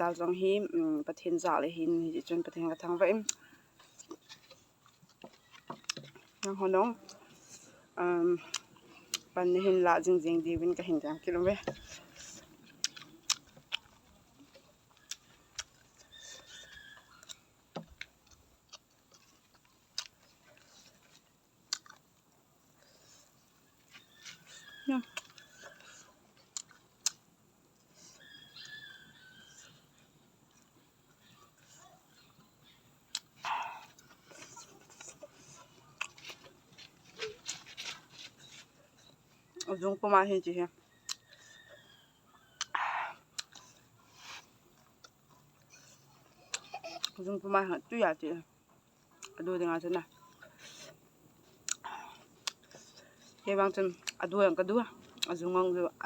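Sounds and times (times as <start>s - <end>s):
crunchy vegetable chewing: 1.4s - 56.0s.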